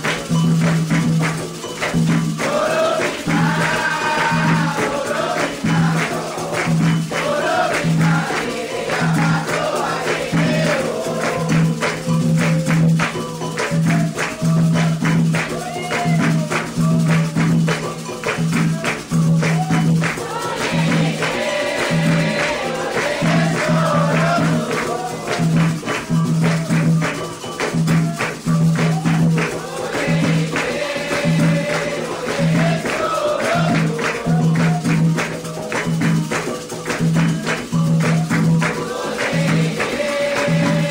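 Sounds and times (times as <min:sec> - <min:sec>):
group singing a chant: 0:00.0 - 0:40.9
hand drums and percussion: 0:00.0 - 0:40.9.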